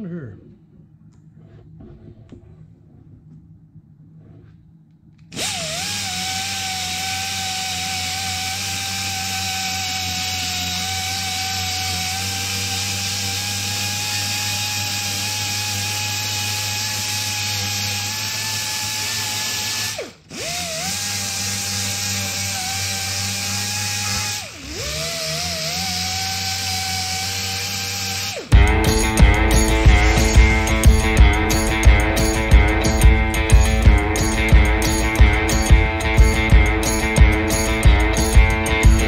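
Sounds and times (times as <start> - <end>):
handheld grinder whining: 5.3 - 39.0.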